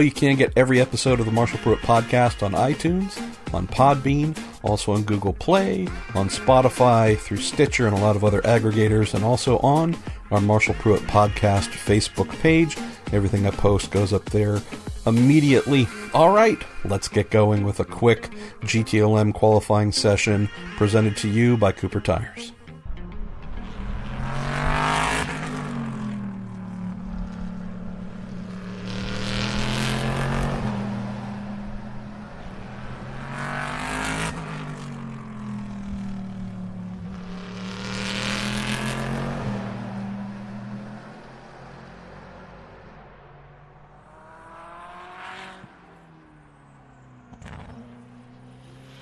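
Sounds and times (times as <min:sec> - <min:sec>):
cars braking: 0:00.0 - 0:49.0
race cars passing: 0:00.0 - 0:49.0.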